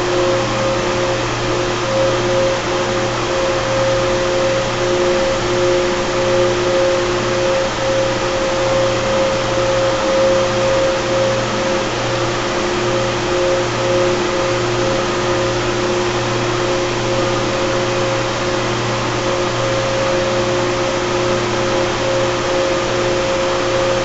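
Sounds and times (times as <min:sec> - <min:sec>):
chiller compressors droning: 0:00.0 - 0:24.0
mid-pitched compressor whines: 0:00.0 - 0:24.0.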